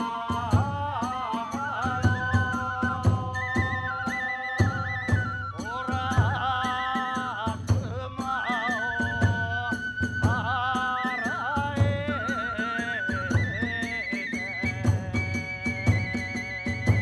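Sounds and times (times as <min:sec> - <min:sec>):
drum beats: 0:00.0 - 0:17.0
high bamboo flute melody: 0:01.0 - 0:07.3, 0:08.3 - 0:17.0.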